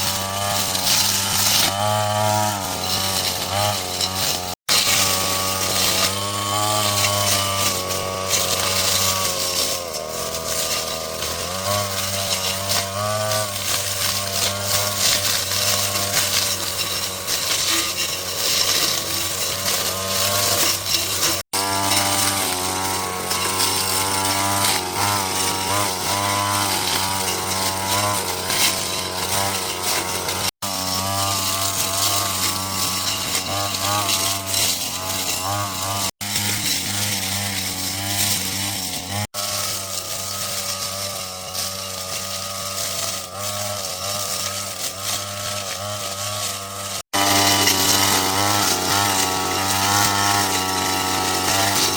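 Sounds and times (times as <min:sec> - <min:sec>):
small petrol engine running: 0:00.0 - 0:51.9.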